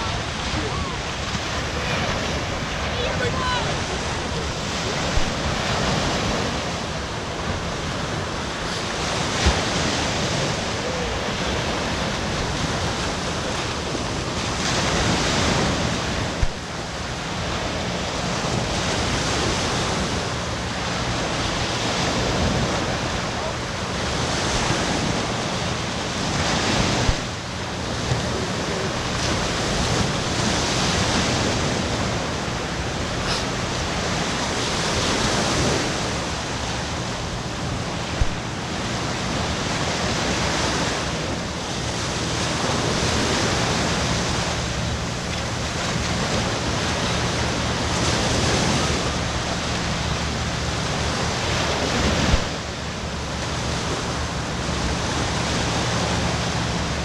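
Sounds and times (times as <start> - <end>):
ocean surf washing on beach: 0.0 - 57.0
wind on microphone: 0.0 - 57.0.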